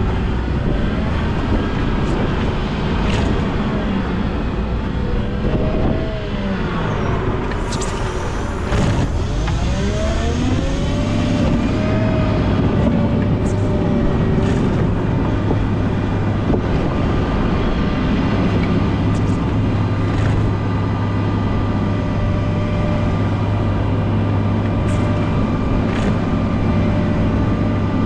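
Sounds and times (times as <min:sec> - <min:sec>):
wheel loader engine revving: 0:00.0 - 0:28.0.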